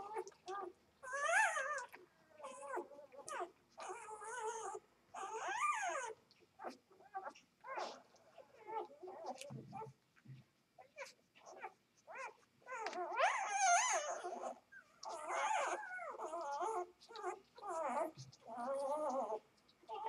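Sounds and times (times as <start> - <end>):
puppies squealing: 1.0 - 9.9, 10.9 - 20.0.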